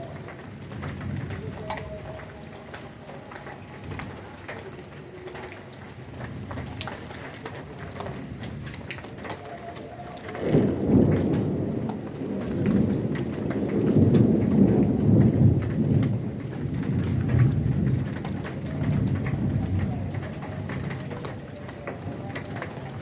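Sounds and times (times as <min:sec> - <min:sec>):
heavy rain: 0:00.0 - 0:23.0
thunder rumbling: 0:00.0 - 0:23.0.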